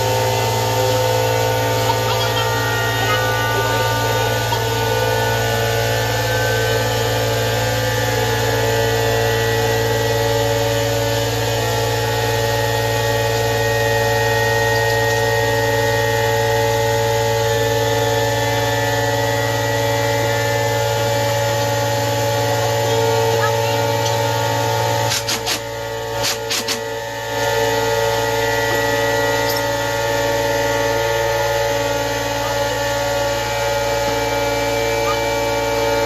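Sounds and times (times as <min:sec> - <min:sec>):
steady machine hum: 0:00.0 - 0:36.0.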